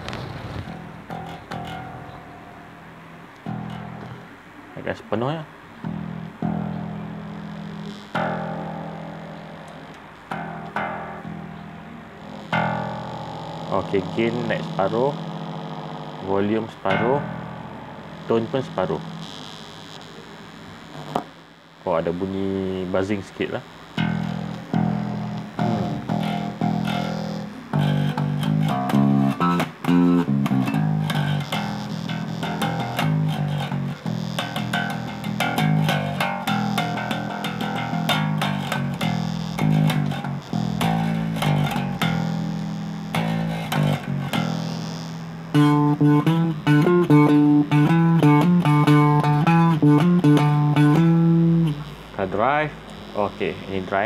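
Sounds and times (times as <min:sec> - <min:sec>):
electric bass guitar notes: 0:00.0 - 0:54.0
slight electrical buzz: 0:00.0 - 0:54.0.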